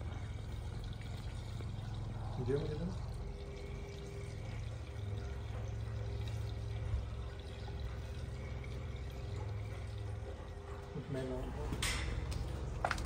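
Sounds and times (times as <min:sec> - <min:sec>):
milk pouring into plastic bucket: 0:00.0 - 0:11.2
low hum: 0:00.0 - 0:13.0.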